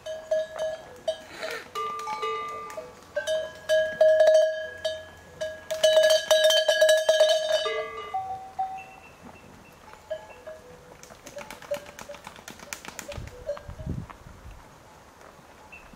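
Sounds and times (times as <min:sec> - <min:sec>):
goat bells clanking: 0:00.0 - 0:12.4, 0:13.1 - 0:14.0.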